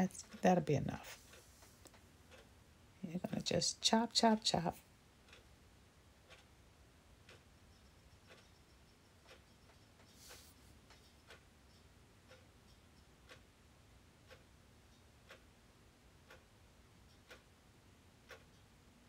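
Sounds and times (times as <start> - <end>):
faint clock ticking: 0.0 - 19.0.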